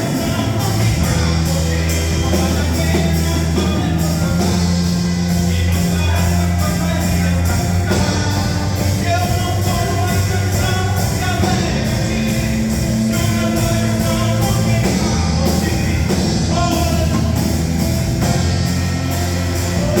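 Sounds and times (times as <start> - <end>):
rock worship band playing: 0.0 - 20.0
singing: 0.0 - 20.0.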